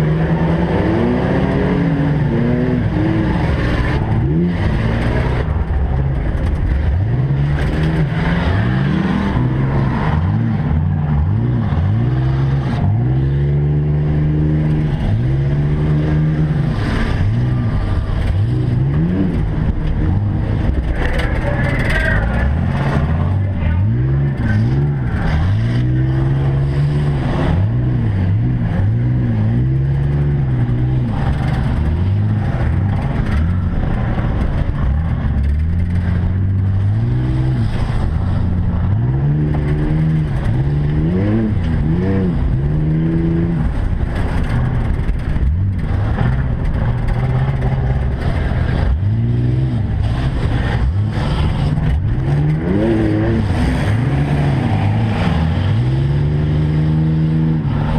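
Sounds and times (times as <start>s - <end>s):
rally truck engines revving: 0.0s - 57.9s.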